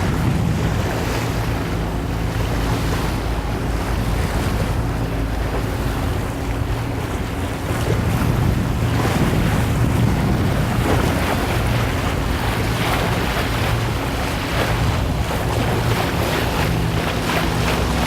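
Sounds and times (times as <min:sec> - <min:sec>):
boat engine humming: 0:00.0 - 0:18.0
water rushing: 0:00.0 - 0:18.0
wind buffeting microphone: 0:00.0 - 0:18.0.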